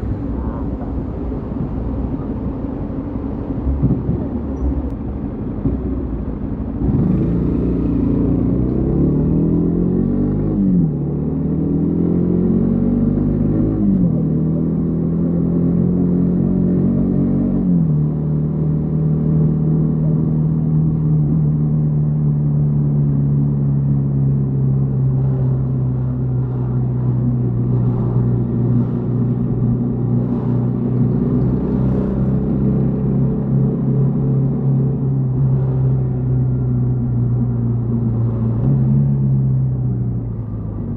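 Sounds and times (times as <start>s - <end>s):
motorcycle engine accelerating: 6.7s - 40.9s.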